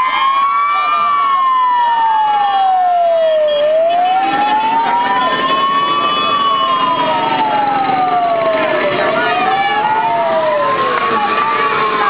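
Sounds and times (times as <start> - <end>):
crowd noise: 0.0 - 12.0
siren wailing: 0.0 - 12.0
motorcycles: 1.0 - 12.0.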